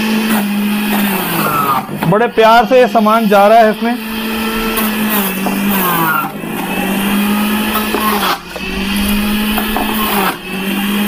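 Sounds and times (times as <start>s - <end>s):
juicer motor hum: 0.0s - 11.0s.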